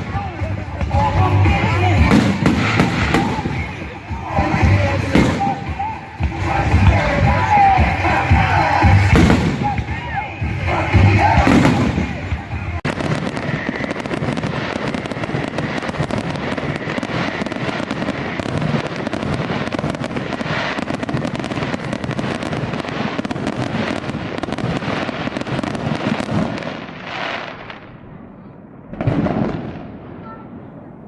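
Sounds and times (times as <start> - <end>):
fireworks crackling and popping: 0.0 - 30.4.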